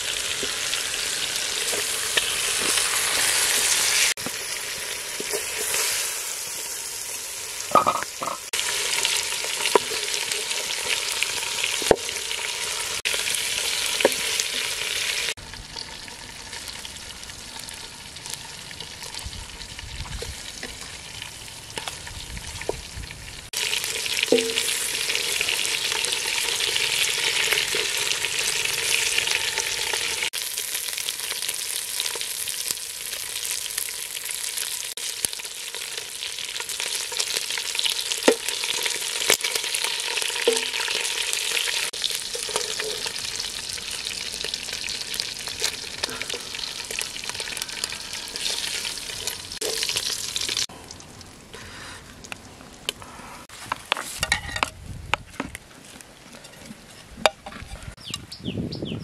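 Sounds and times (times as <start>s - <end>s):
frying sizzle in oil: 0.0s - 52.8s.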